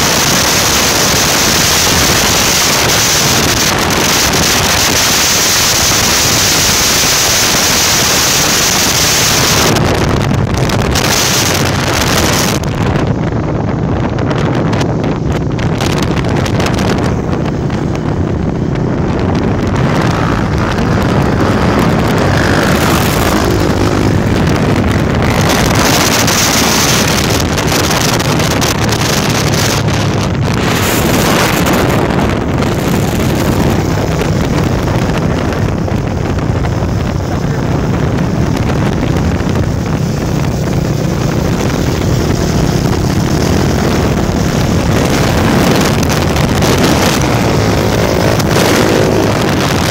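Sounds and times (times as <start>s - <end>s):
motorcycle engine hum: 0.0s - 49.9s
wind rushing over microphone: 0.0s - 49.9s.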